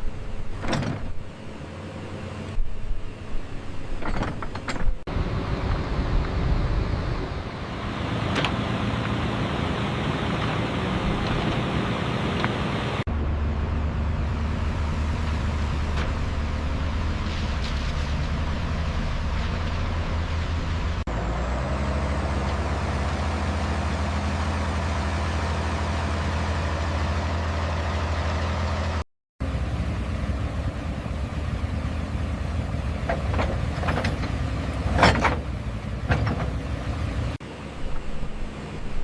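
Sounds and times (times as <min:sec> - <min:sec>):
heavy vehicle engine rumbling: 0:00.0 - 0:39.0.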